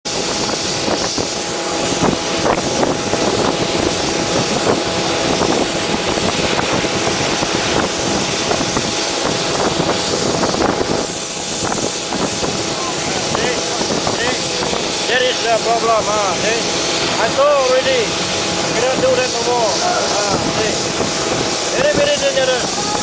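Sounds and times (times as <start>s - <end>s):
motorboat engine droning: 0.0s - 23.0s
wind buffeting microphone: 0.0s - 23.0s.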